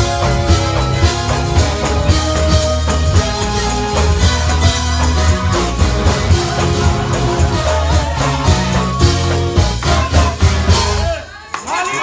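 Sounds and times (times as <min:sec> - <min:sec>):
sustained keyboard notes: 0:00.0 - 0:11.1
heavy bass: 0:00.0 - 0:11.2
drums: 0:00.0 - 0:12.0
live band music: 0:00.0 - 0:12.0.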